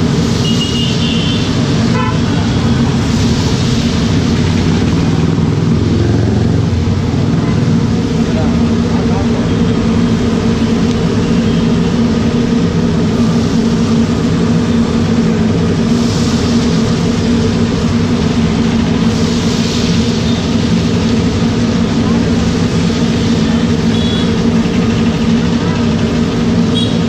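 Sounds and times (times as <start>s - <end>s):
loud low drone: 1.3s - 26.9s.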